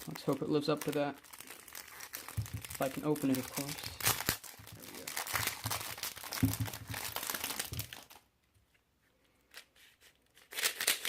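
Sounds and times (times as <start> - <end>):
plastic packaging crinkling and tearing: 0.0 - 8.3, 9.6 - 11.0.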